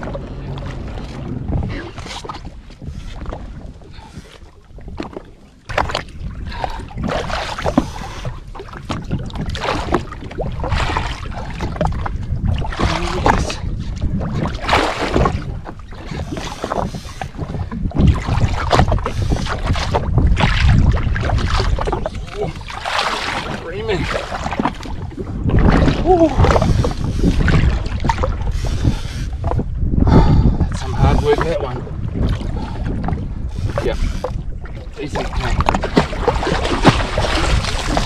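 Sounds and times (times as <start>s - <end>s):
steady low rumble: 0.0s - 4.9s, 5.6s - 38.0s
water slapping against hull: 0.0s - 38.0s
wind buffeting microphone: 0.0s - 38.0s.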